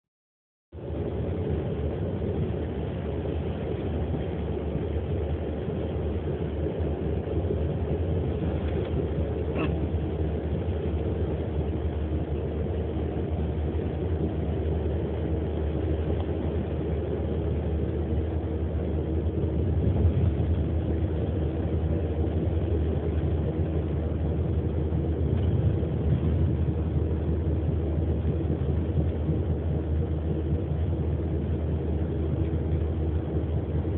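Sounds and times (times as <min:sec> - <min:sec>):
engine and road rumble in car: 0:00.7 - 0:33.9.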